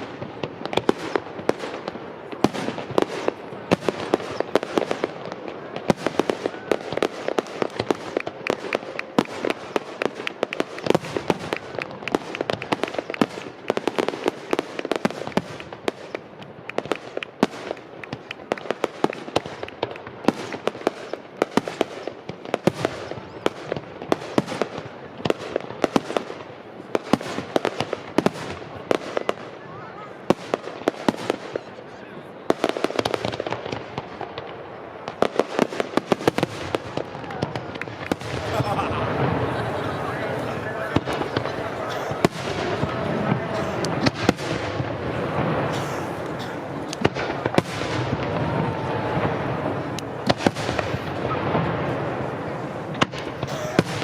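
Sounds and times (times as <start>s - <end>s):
fireworks exploding: 0.0s - 54.0s.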